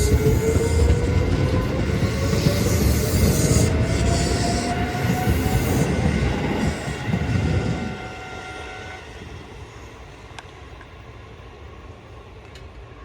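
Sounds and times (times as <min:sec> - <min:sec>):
electric train motor whine: 0:00.0 - 0:10.5.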